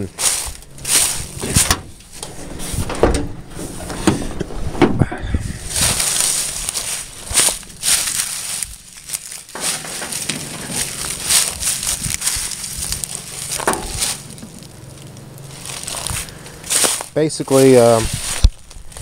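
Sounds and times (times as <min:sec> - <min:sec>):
rustling and crackling handling: 0:00.0 - 0:19.0.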